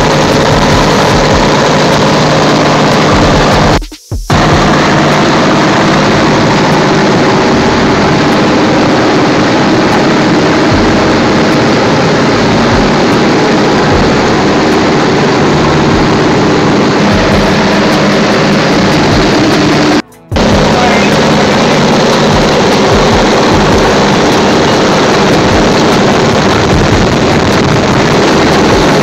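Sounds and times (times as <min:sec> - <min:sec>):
propeller aircraft engines humming: 0:00.0 - 0:29.0.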